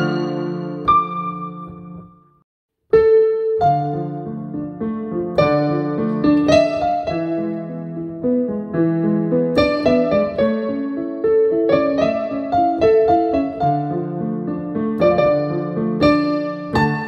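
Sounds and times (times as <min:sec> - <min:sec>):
gentle piano playing: 0:00.0 - 0:17.0.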